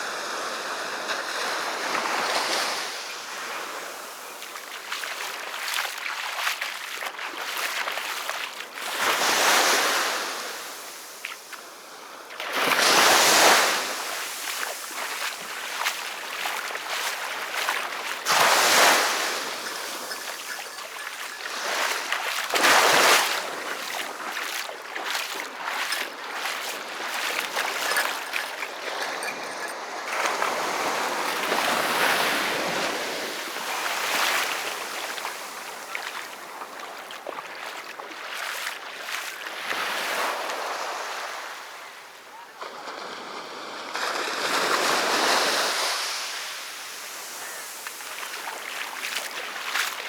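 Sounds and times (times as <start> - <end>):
sea waves breaking on beach: 0.0 - 50.0.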